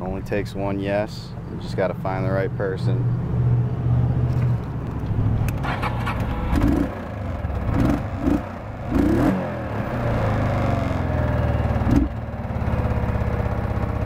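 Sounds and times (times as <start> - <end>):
vehicle engine running: 1.3 - 14.0.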